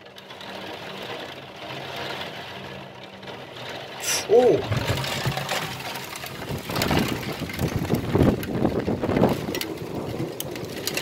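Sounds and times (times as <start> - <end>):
hailstones pelting down: 0.0 - 11.0.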